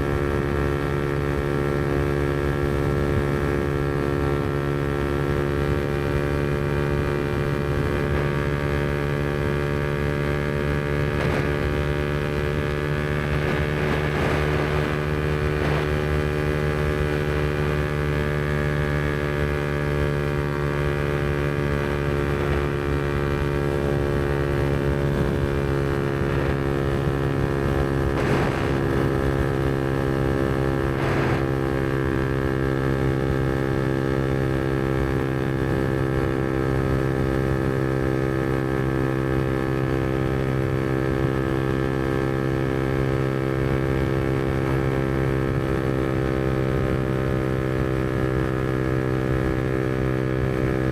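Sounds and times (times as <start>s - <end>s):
motorcycle engine cruising: 0.0s - 50.9s.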